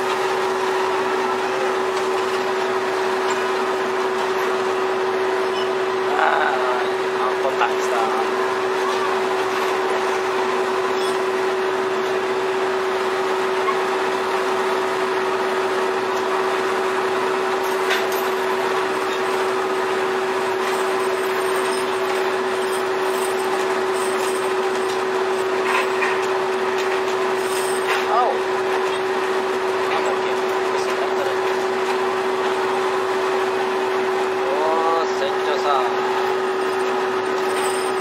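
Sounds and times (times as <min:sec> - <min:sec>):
deck machinery drone: 0:00.0 - 0:38.0.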